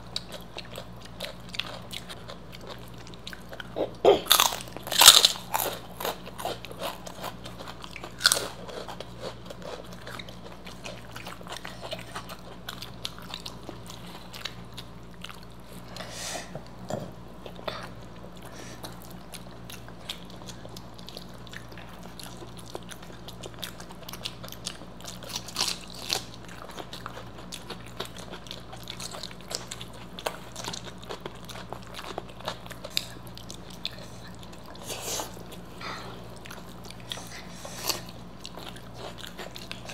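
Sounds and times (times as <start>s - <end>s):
chewing and biting: 0.0s - 39.9s
faint low hum: 0.0s - 39.9s
crisp crunches of fried food: 0.1s - 15.6s, 18.9s - 35.7s.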